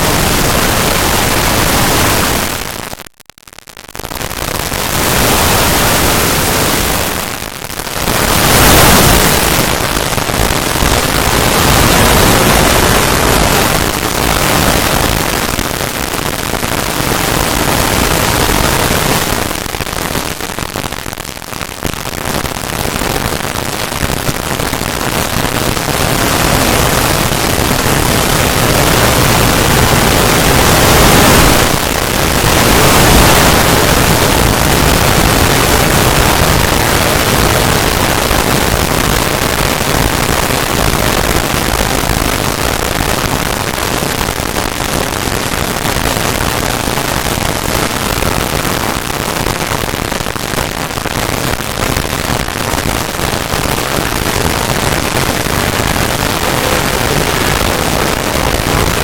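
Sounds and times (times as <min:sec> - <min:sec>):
harsh static noise: 0:00.0 - 0:59.0.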